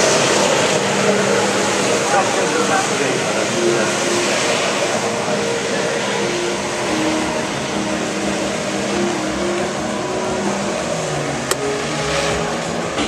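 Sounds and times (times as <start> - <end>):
jet ski engine running: 0.0 - 13.0
water jets spraying: 0.0 - 13.0.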